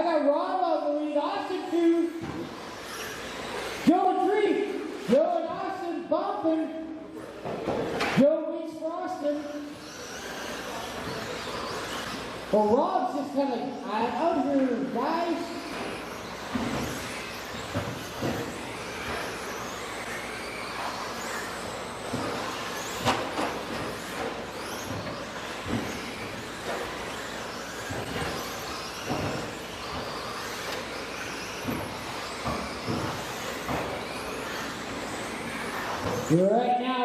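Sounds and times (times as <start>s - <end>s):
electric motors whining: 0.0s - 8.2s, 8.9s - 37.0s.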